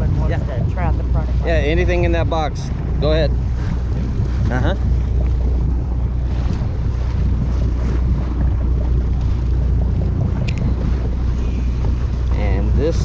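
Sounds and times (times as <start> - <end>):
boat engine idling: 0.0 - 13.0
sea noise: 0.0 - 13.0
wind: 0.0 - 13.0.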